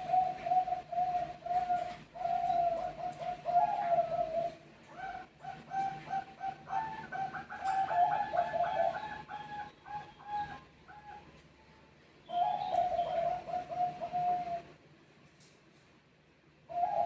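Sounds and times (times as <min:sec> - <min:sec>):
doves cooing: 0:00.0 - 0:11.4, 0:12.3 - 0:14.8, 0:16.7 - 0:17.0.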